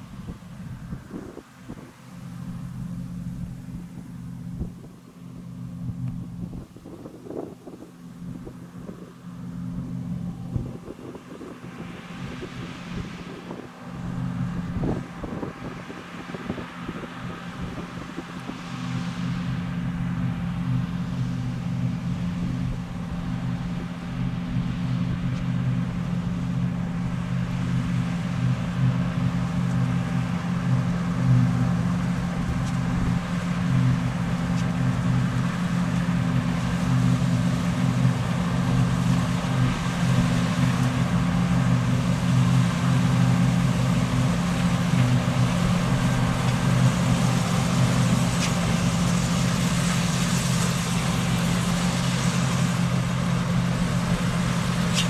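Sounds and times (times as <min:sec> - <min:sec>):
combine harvester engine drone: 0:00.0 - 0:55.0
machinery noise: 0:09.6 - 0:55.0.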